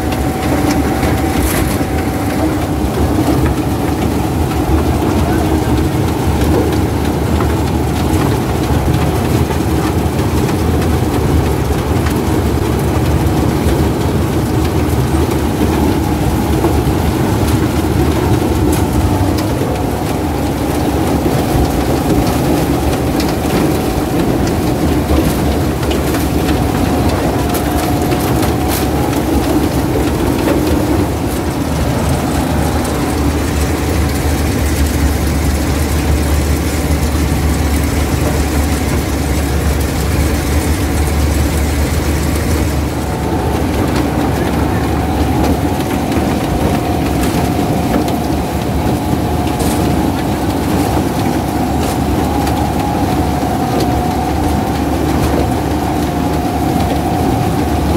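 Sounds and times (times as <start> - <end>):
combine harvester running: 0.0 - 57.9.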